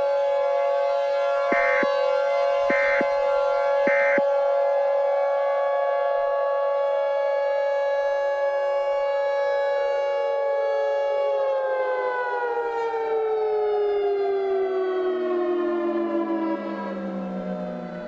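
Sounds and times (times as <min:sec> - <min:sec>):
warning siren winding down: 0:00.0 - 0:18.0.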